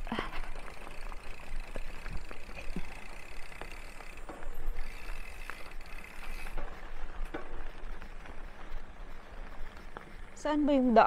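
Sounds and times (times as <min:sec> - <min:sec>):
bike clicks and rattles: 0:00.0 - 0:11.0
tyres crunching on gravel: 0:00.0 - 0:11.0.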